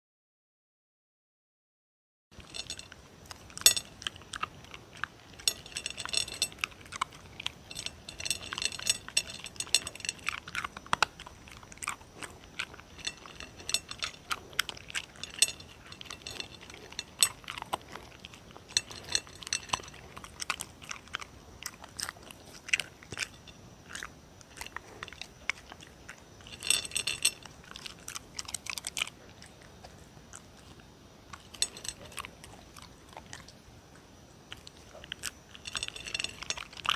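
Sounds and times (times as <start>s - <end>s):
puppy crunching dry kibble: 2.4s - 36.9s.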